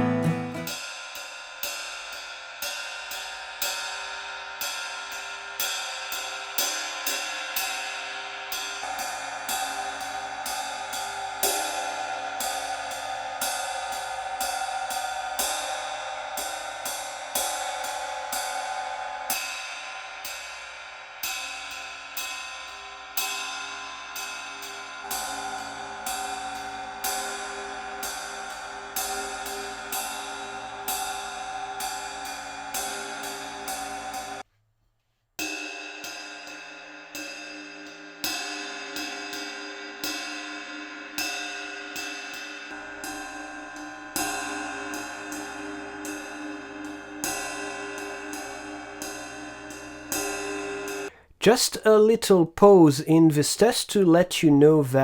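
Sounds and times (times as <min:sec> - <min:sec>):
ride cymbal played with stick: 0:00.0 - 0:34.4, 0:35.4 - 0:51.3.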